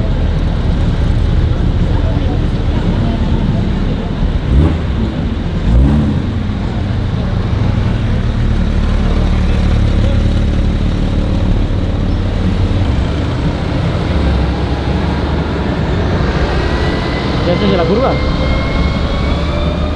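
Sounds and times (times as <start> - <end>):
car engine rumbling: 0.0 - 19.9.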